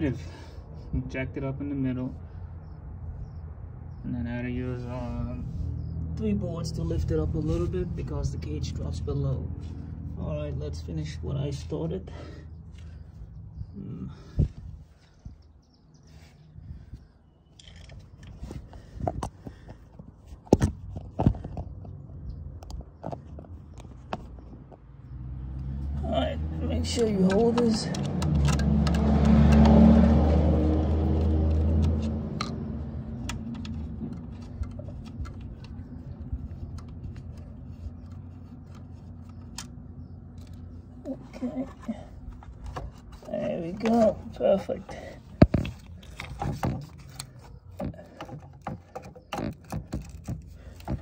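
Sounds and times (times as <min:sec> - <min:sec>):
low vehicle rumble: 0:00.0 - 0:51.0.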